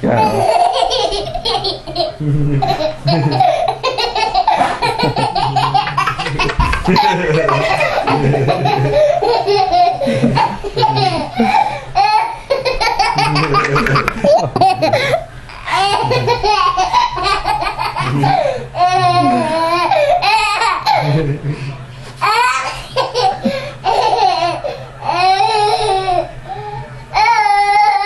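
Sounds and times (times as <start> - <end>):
little boy laughing hysterically: 0.1 - 21.4, 22.2 - 26.2.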